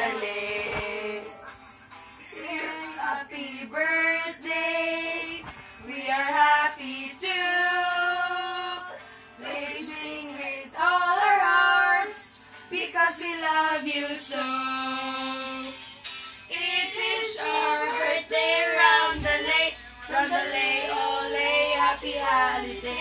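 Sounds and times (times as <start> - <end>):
women and girls singing together: 0.0 - 1.4, 2.3 - 15.8, 16.5 - 23.0.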